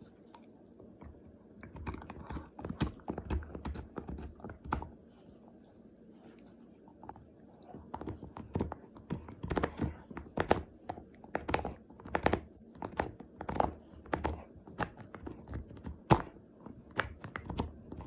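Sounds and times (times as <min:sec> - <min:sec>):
dog chewing a bone: 0:00.1 - 0:05.6, 0:06.4 - 0:18.0.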